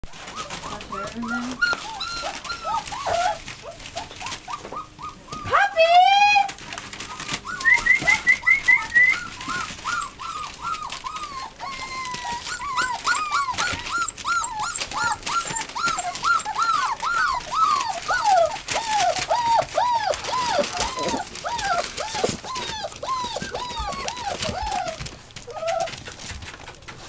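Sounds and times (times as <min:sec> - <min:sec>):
puppies whining: 0:00.1 - 0:27.0
puppy high chirps: 0:00.3 - 0:05.6, 0:07.0 - 0:26.0.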